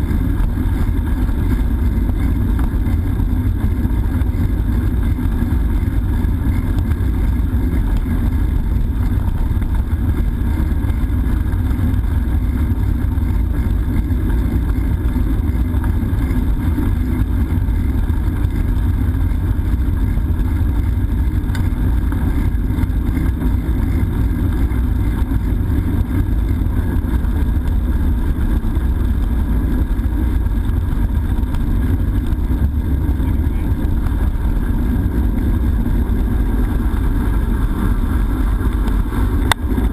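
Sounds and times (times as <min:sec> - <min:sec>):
bicycle tyre noise: 0:00.0 - 0:39.9.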